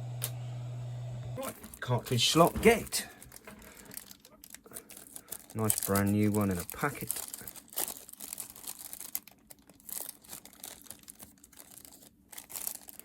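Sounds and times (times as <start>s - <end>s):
plastic packet crinkling: 1.4s - 13.0s.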